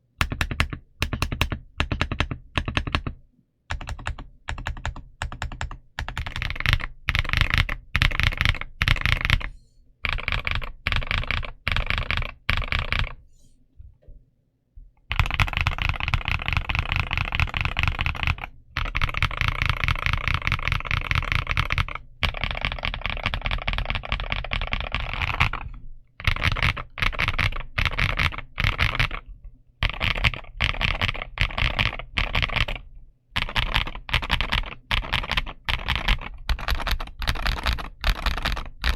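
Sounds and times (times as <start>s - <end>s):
mechanical keyboard typing: 0.2s - 13.2s, 15.1s - 38.9s.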